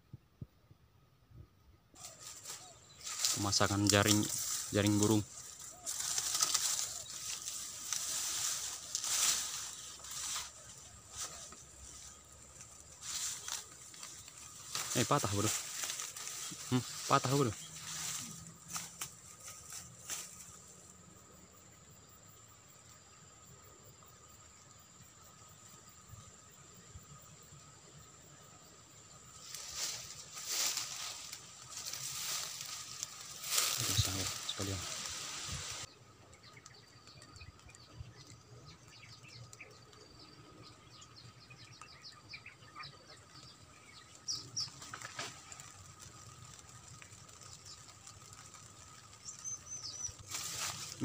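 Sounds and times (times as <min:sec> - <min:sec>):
rustling of grass and leaves: 0:02.0 - 0:51.0.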